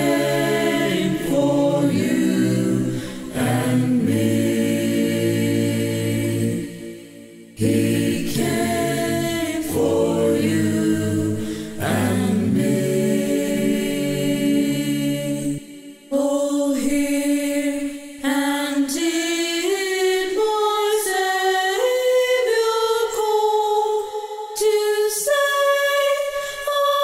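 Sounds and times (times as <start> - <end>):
a cappella choir singing: 0.0 - 27.0.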